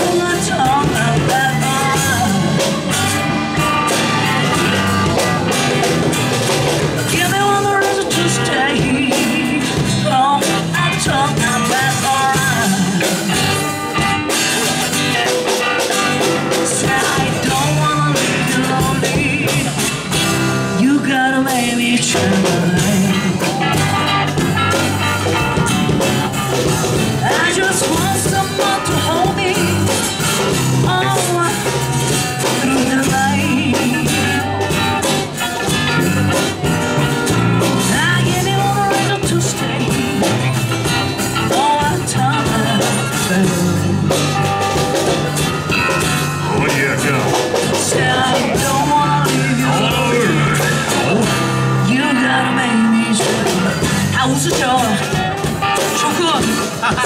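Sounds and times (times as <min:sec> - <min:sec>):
drum kit: 0:00.0 - 0:57.0
electric bass line: 0:00.0 - 0:57.0
rock band jamming: 0:00.0 - 0:57.0.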